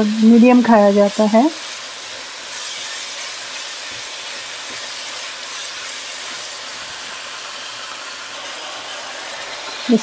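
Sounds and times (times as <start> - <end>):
curry sizzling in a wok: 0.0 - 10.0.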